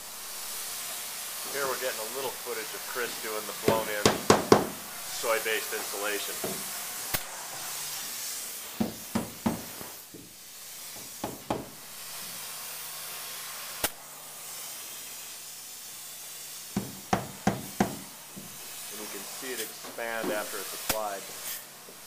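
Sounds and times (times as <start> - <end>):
spray foam gun hissing: 0.0 - 22.0.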